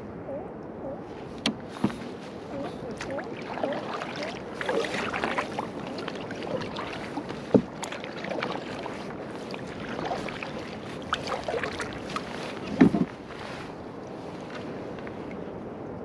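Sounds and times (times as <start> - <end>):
paddle strokes splashing water: 1.2 - 15.5.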